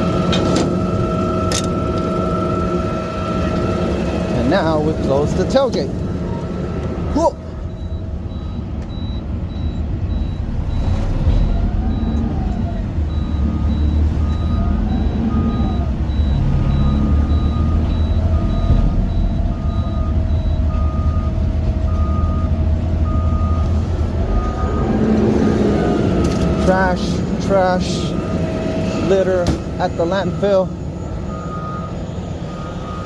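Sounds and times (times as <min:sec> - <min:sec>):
high reversing alarm beeping: 0:00.0 - 0:06.5, 0:07.1 - 0:33.0
low reversing alarm beeping: 0:00.0 - 0:33.0
truck engine running: 0:00.0 - 0:33.0.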